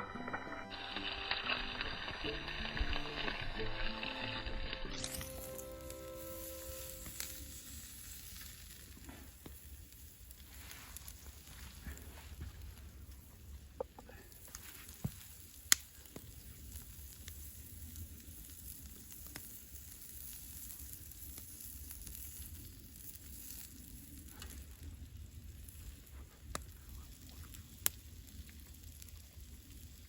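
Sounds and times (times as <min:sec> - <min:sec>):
meat sizzling over fire: 0:00.0 - 0:30.0
sharp pops from fire: 0:05.0 - 0:30.0.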